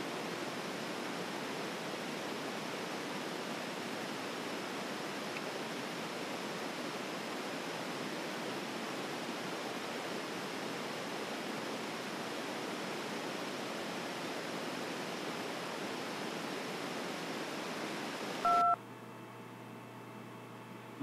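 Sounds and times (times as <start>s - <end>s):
static hiss: 0.0s - 18.8s.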